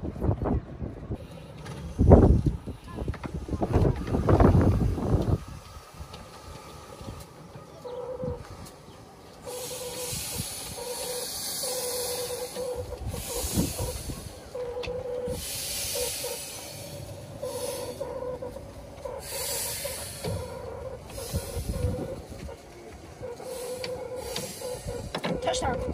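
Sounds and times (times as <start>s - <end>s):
steam locomotive hissing: 1.2s - 25.9s.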